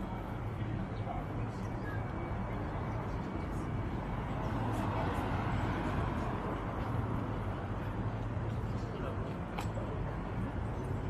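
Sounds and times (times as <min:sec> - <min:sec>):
traffic noise with low hum: 0:00.0 - 0:11.0.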